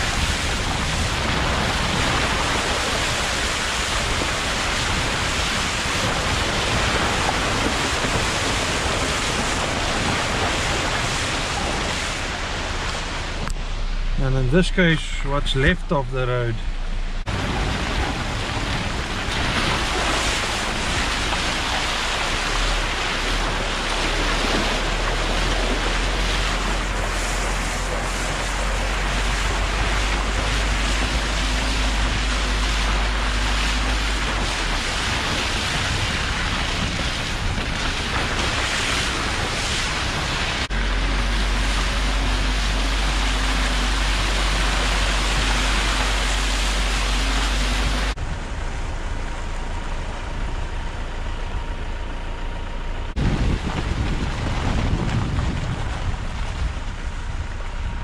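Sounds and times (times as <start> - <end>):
wind rush on microphone: 0.0 - 14.0, 17.1 - 49.2, 53.1 - 58.0
low engine rumble: 0.0 - 58.0
tyres rolling over wet gravel: 0.0 - 58.0.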